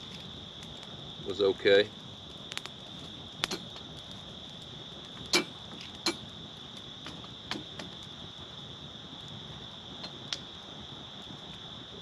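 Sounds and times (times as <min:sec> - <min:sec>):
campfire crackling and popping: 0:00.0 - 0:12.0
high-pitched hiss: 0:00.0 - 0:12.0.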